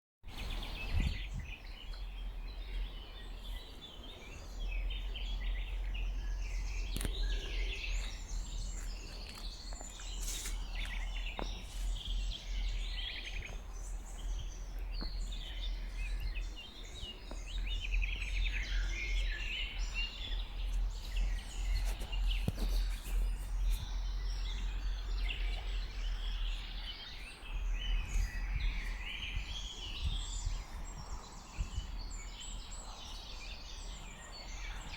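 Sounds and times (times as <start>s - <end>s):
songbirds singing and chirping: 0.2s - 34.9s
steady low rumble: 0.4s - 33.2s.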